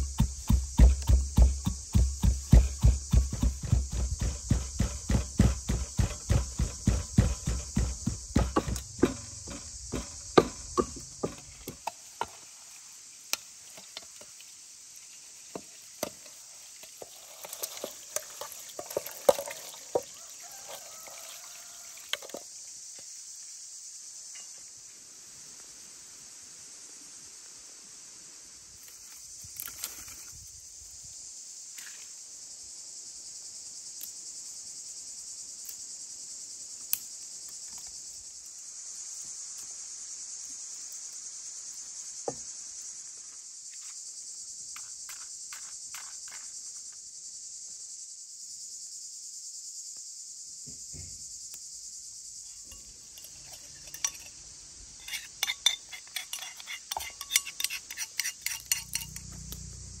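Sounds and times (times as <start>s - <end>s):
buzzing insect chorus: 0.0s - 27.4s, 28.0s - 60.0s.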